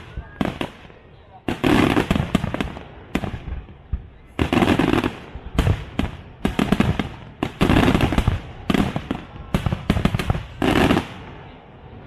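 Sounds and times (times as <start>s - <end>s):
fireworks bangs and crackle: 0.0s - 11.6s.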